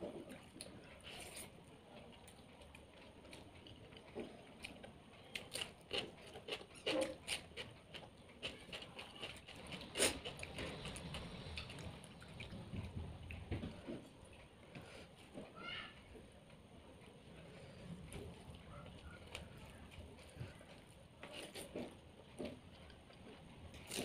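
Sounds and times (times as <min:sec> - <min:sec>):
person chewing food: 0:00.0 - 0:15.5, 0:16.4 - 0:24.0.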